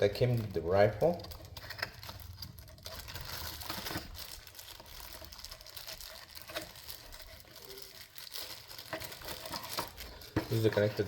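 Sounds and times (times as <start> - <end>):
faint handling rustles and clicks: 0.0 - 11.0.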